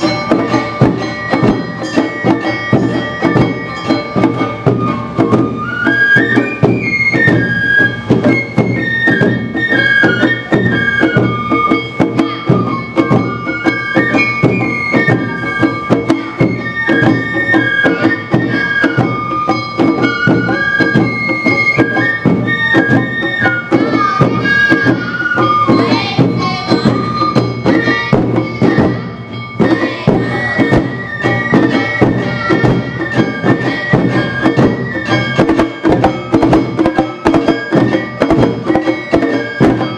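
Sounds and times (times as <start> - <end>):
bamboo flutes playing melody: 0.0 - 39.9
bells: 0.0 - 39.9
drums beating: 0.0 - 39.9.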